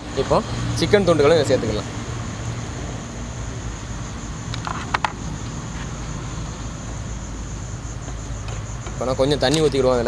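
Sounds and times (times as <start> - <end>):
crickets droning: 0.0 - 10.0.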